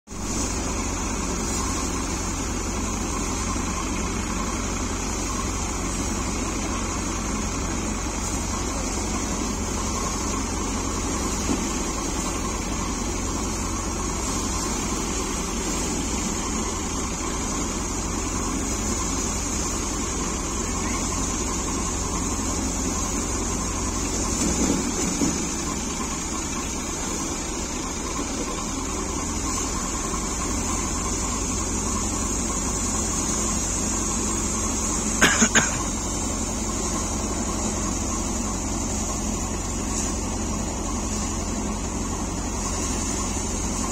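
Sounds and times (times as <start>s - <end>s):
paddy thresher running: 0.1s - 43.9s.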